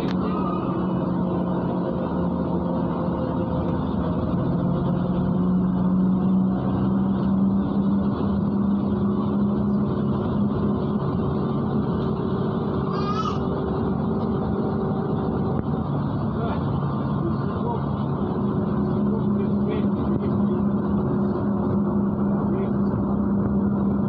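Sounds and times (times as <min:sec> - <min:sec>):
bus engine drone and whine: 0:00.0 - 0:24.0.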